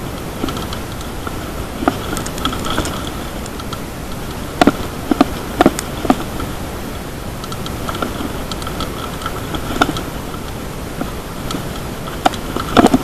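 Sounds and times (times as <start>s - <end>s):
bike tyres rumbling and rattling: 0.0s - 13.0s.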